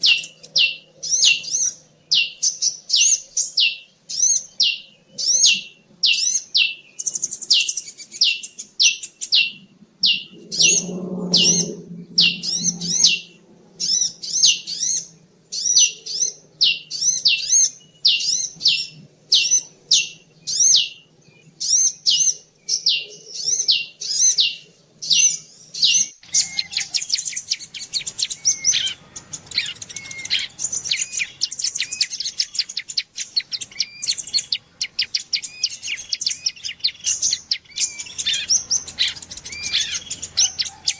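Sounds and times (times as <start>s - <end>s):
songbird chirps and twittering: 0.0s - 40.9s.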